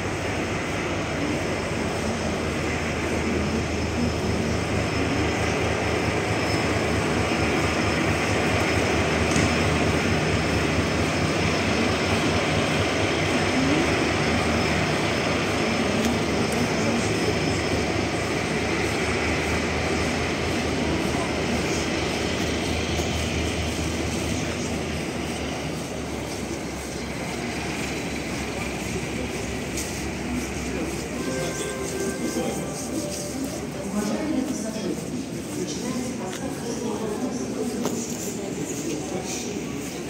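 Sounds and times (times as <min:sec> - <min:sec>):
locomotive engine low drone: 0:00.0 - 0:40.0.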